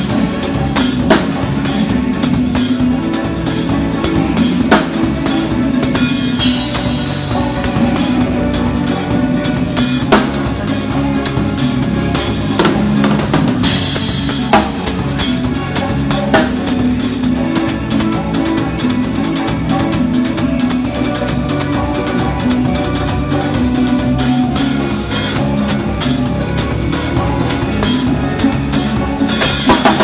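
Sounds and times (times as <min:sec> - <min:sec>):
bass guitar: 0:00.0 - 0:30.0
drum kit playing: 0:00.0 - 0:30.0.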